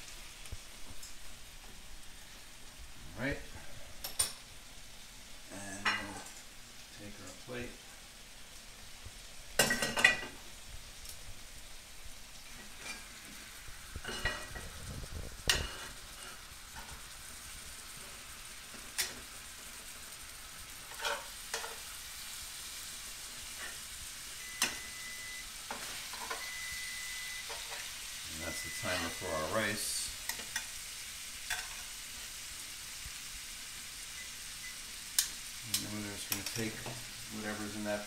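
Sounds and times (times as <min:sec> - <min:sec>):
meat sizzling in a skillet: 0:00.0 - 0:38.0.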